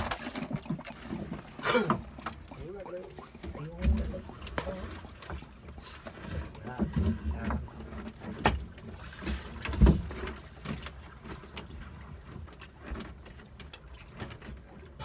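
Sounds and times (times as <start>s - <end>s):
knocks and clatter on wooden boat: 0.0s - 15.0s.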